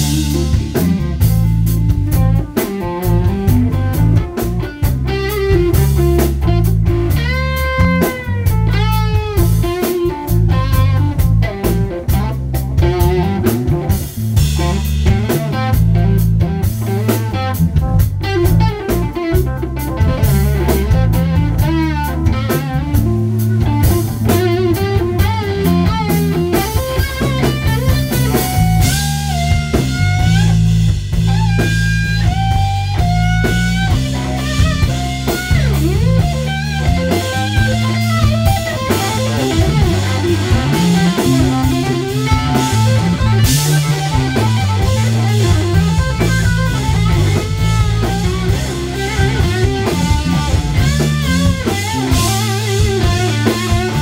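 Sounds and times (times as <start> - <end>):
drum kit: 0.0 - 54.0
electric guitar lead lines: 0.0 - 54.0.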